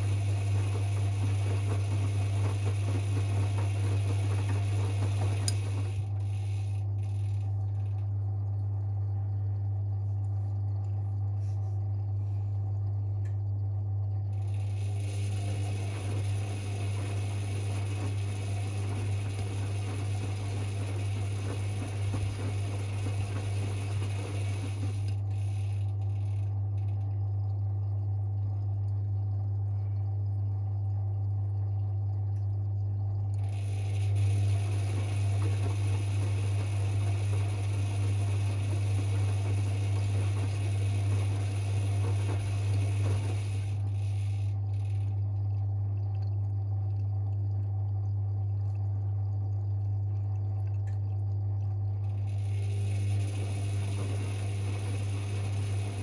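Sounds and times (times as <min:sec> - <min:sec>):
steady low hum: 0:00.0 - 0:56.0
washing machine drum motor: 0:00.0 - 0:56.0.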